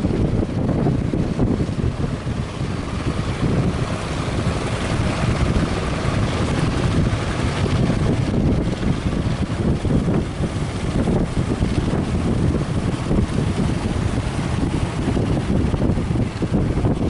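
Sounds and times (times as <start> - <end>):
surf rushing: 0.0 - 17.0
wind buffeting microphone: 0.0 - 17.0.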